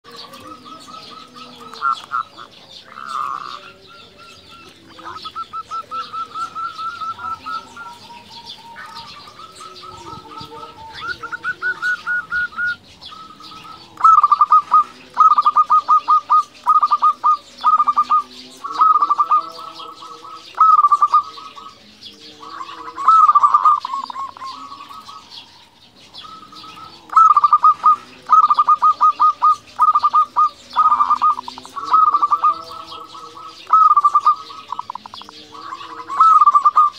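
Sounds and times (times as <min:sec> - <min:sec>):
dove rapid cooing: 0:00.0 - 0:36.9
faint bird chirping: 0:00.0 - 0:36.9.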